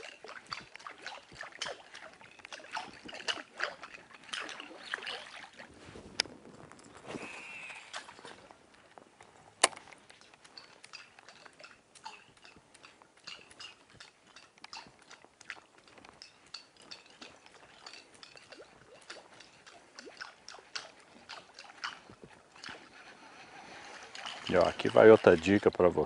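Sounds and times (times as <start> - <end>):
fishing lure clicking and splashing: 0.0 - 5.6, 9.6 - 23.0, 23.8 - 25.9.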